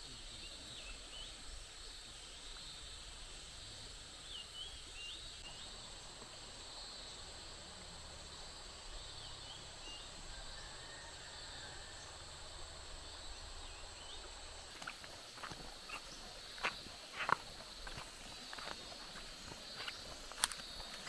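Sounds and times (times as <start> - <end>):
high insect drone: 0.0 - 21.0
river flowing: 1.6 - 21.0.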